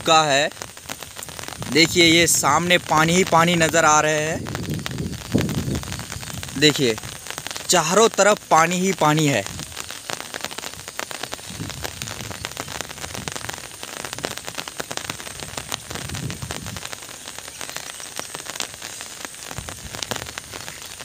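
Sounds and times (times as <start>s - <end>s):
rain drops hitting close: 0.0s - 21.0s
rain hiss: 0.0s - 21.0s.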